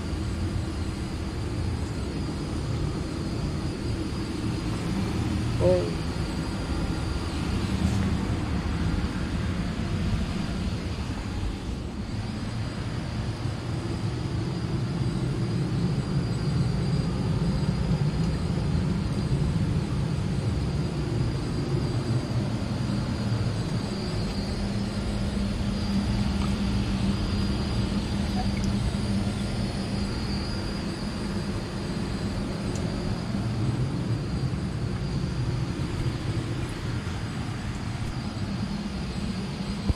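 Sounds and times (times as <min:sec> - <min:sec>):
faint high whine: 0:00.0 - 0:39.9
gas furnace low rumble: 0:00.0 - 0:39.9.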